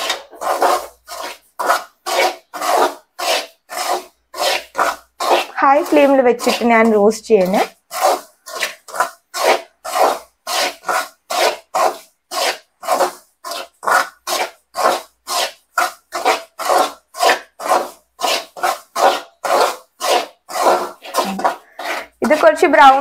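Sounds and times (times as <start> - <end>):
semolina scraped around a pan: 0.0 - 23.0.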